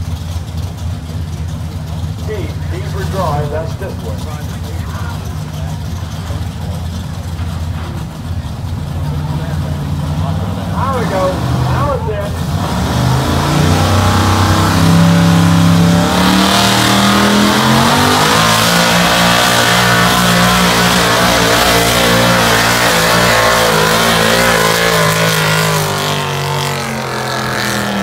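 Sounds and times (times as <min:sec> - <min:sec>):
truck engine revving under load: 0:01.1 - 0:28.0.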